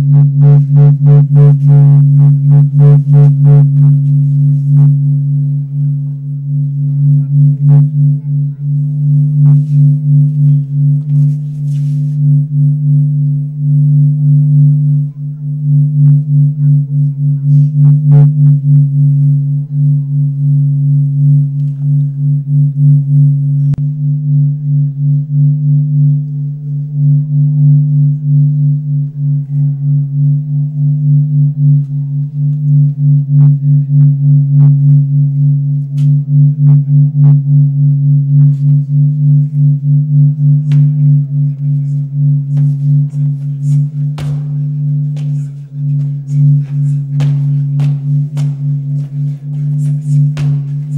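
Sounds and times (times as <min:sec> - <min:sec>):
low pulsing drone: 0:00.0 - 0:50.9.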